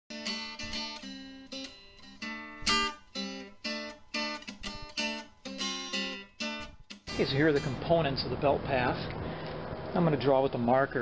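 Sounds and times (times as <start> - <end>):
strummed acoustic guitar chords: 0.1 - 10.2.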